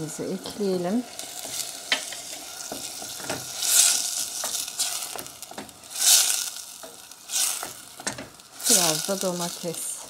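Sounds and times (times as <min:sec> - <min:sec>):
sauce sizzling in a pot: 0:00.0 - 0:10.0
wooden spoon scraping a pot: 0:01.1 - 0:10.0.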